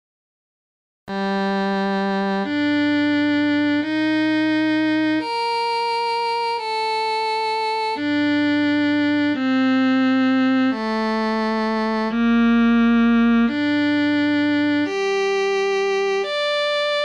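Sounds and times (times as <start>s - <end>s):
sustained instrumental chords: 1.1s - 17.0s.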